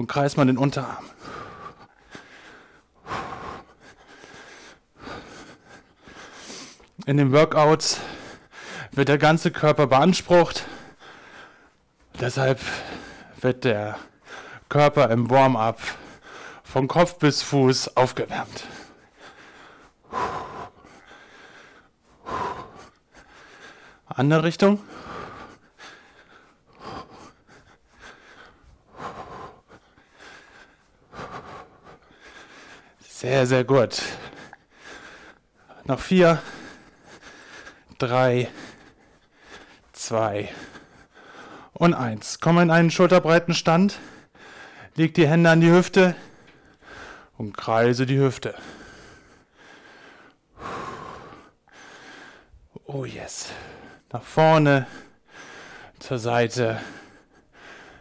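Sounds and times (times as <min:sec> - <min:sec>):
man breathing hard: 0:00.8 - 0:07.0, 0:07.8 - 0:09.0, 0:10.1 - 0:14.8, 0:15.7 - 0:41.8, 0:43.7 - 0:45.0, 0:45.7 - 0:47.4, 0:48.3 - 0:58.0.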